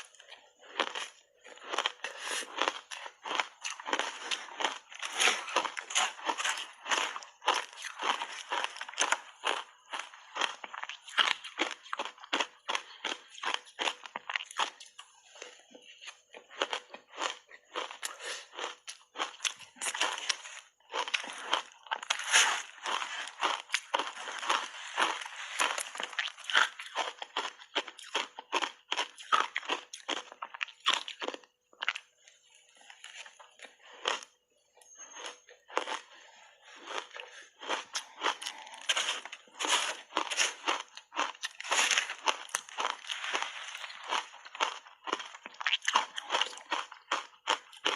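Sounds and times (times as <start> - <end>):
chewing and crunching ice: 0.0 - 47.9.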